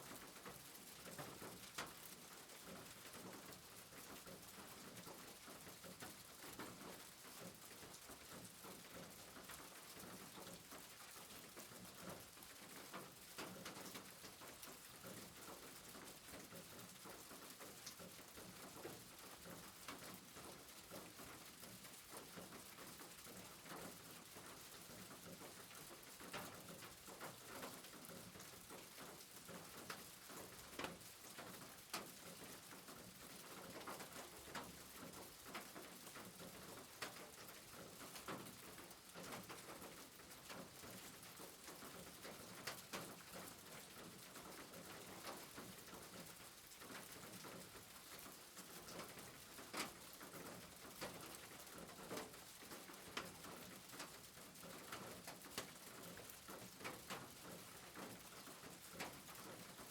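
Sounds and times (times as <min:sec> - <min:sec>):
faint steady rain: 0:00.0 - 0:59.9.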